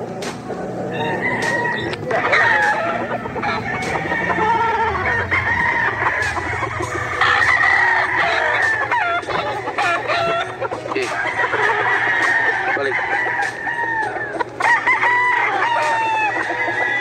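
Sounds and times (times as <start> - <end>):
roosters crowing and clucking: 0.0 - 17.0.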